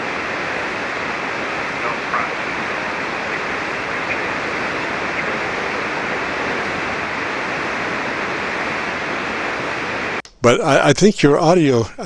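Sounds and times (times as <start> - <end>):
radio receiver hiss and static: 0.0 - 12.0.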